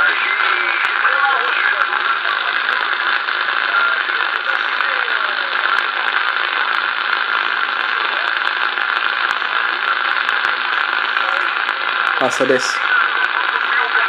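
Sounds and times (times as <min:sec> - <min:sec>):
faint crackles: 0:00.0 - 0:14.0
radio static hiss: 0:00.0 - 0:14.0.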